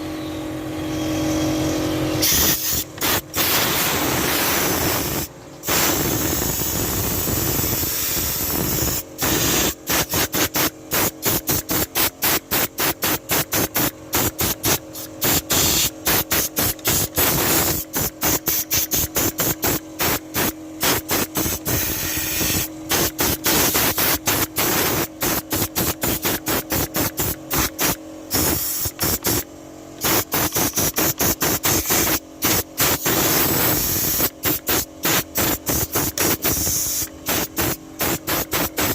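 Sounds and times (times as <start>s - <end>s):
hissing air jet bursts: 2.2s - 29.4s, 30.0s - 38.9s.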